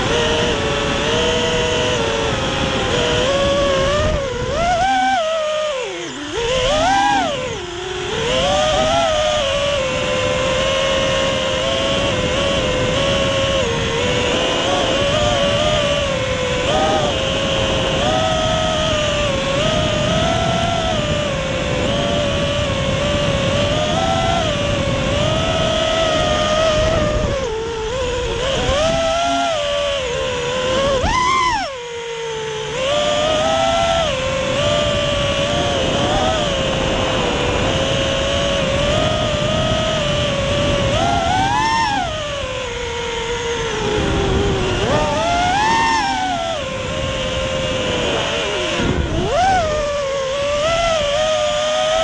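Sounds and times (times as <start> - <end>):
quadcopter motors whining: 0.0 - 52.0.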